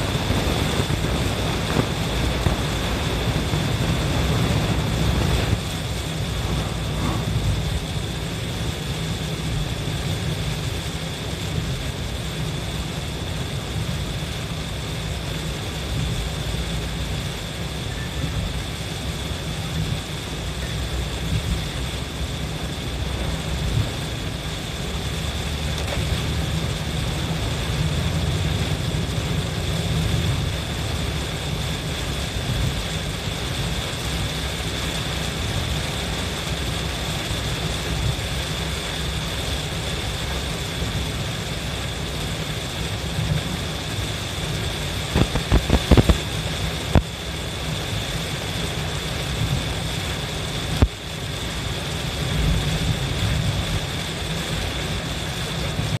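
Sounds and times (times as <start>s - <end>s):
rain and tyre spray hiss: 0.0s - 56.0s
road and engine rumble: 0.0s - 56.0s.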